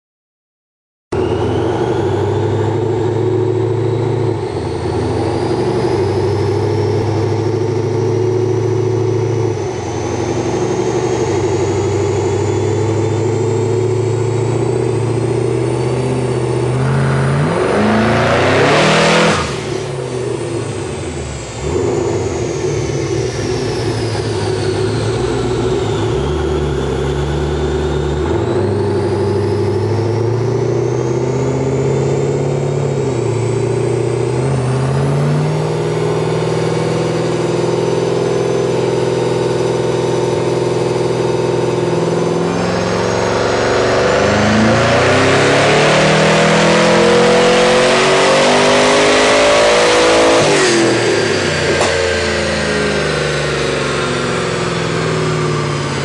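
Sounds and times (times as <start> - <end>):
high turbo whine: 1.1 - 56.0
car engine revving on dyno: 1.2 - 56.0.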